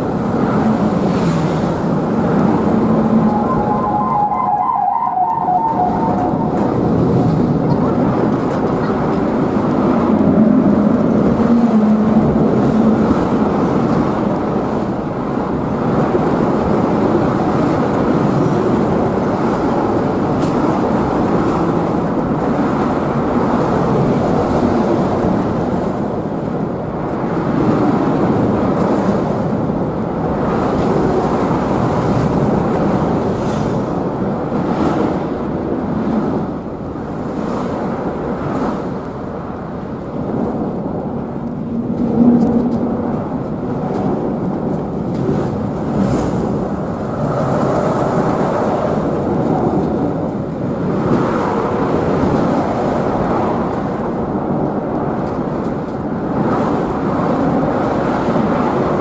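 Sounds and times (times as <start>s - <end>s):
ship engine rumbling: 0.0s - 59.0s
water: 0.0s - 59.0s
wind on microphone: 0.0s - 59.0s.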